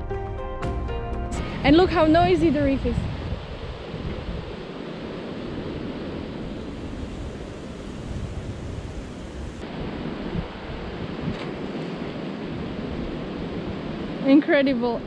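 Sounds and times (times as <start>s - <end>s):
wind on microphone: 1.4s - 15.0s.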